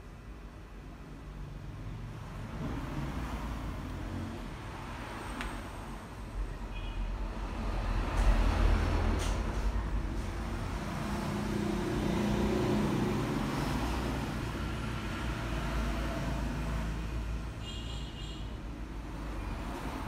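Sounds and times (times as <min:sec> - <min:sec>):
road traffic rumbling: 0:00.0 - 0:20.0.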